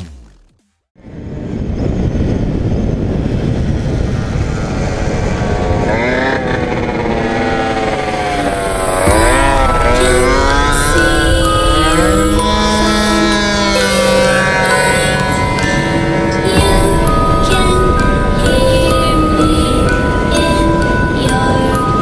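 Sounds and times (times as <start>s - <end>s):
wind on microphone: 1.0s - 22.0s
scooter engines revving: 3.3s - 22.0s.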